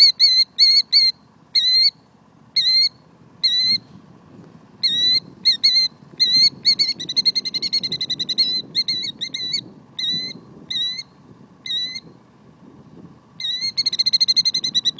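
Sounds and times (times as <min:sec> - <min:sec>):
bird calling: 0:00.0 - 0:04.0, 0:04.8 - 0:12.2, 0:13.4 - 0:14.9.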